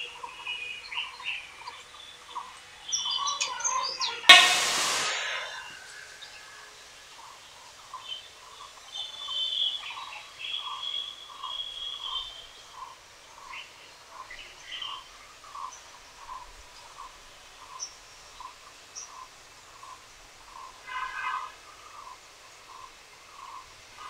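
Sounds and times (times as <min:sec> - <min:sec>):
birds chirping: 0:00.0 - 0:06.5, 0:07.2 - 0:23.8.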